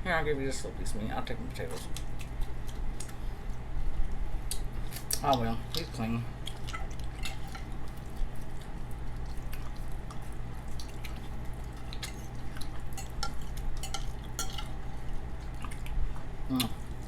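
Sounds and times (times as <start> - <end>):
wet chewing and mouth clicks: 1.7 - 17.0.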